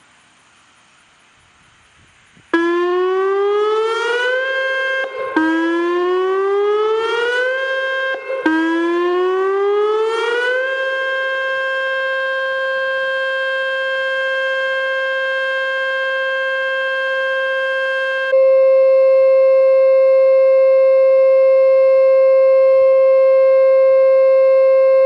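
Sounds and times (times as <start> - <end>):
warning siren: 2.5 - 25.0.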